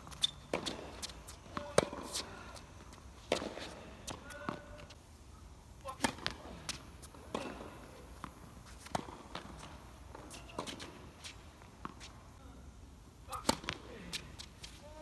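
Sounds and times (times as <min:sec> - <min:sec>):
tennis ball bouncing: 0:00.0 - 0:04.9, 0:05.9 - 0:12.2, 0:13.3 - 0:14.5
rackets striking tennis ball: 0:00.0 - 0:05.0, 0:05.8 - 0:12.1, 0:13.3 - 0:14.8.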